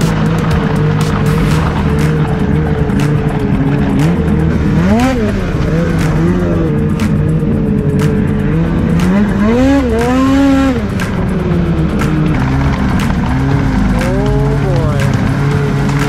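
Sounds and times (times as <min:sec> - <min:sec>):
sharp ticks: 0:00.0 - 0:16.0
snowmobile engine revving: 0:00.0 - 0:16.0.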